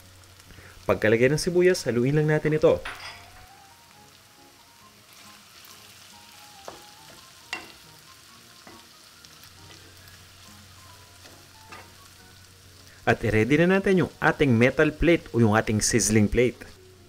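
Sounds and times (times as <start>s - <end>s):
pork and onions sizzling in pan: 0.0s - 17.0s.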